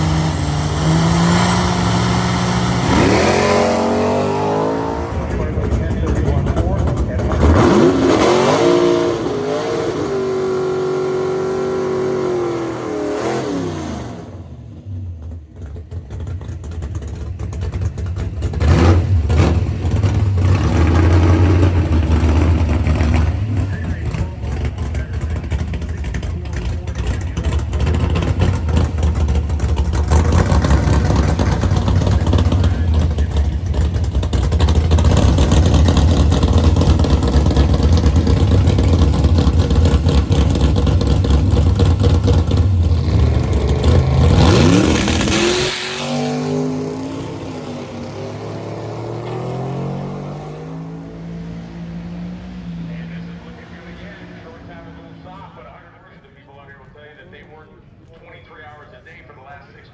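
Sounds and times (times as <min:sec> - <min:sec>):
car engine revving: 0:00.0 - 0:56.1.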